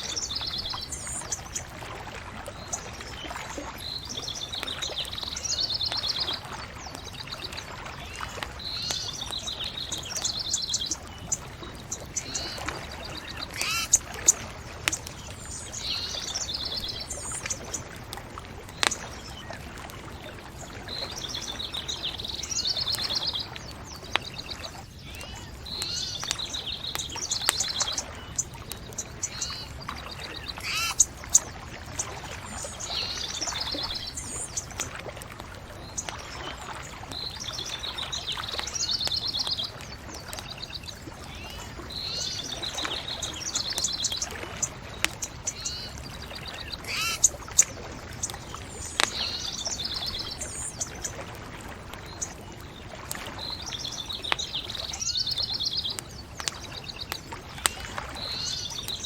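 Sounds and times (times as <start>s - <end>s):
songbirds trilling: 0.0s - 59.0s
bonfire crackling and popping: 0.2s - 42.0s, 42.6s - 59.0s.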